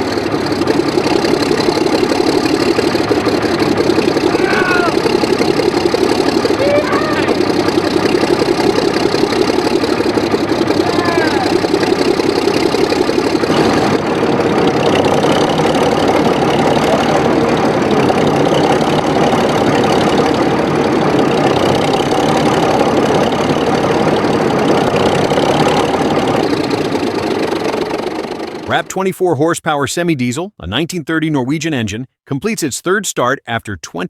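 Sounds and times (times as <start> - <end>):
diesel engine running: 0.0 - 29.4.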